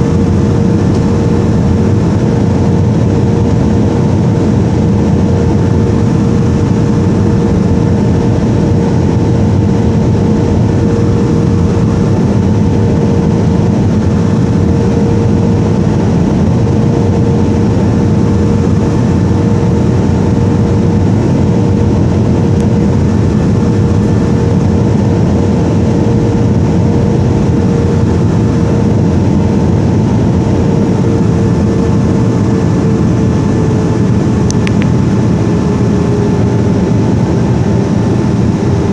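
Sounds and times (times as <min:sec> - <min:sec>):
aircraft cabin air rush: 0:00.0 - 0:38.9
turbofan engines running: 0:00.0 - 0:38.9.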